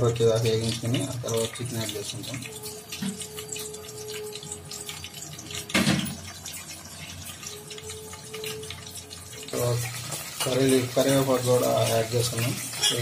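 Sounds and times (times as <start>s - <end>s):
paste sizzling and crackling in oil: 0.0s - 13.0s.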